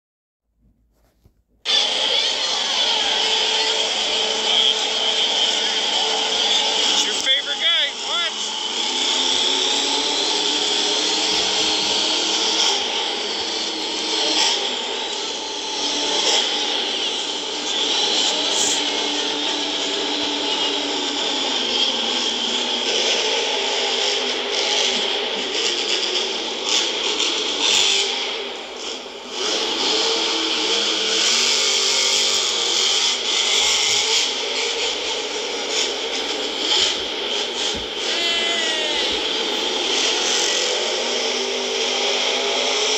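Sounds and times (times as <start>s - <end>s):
monster truck engine: 1.6s - 42.9s.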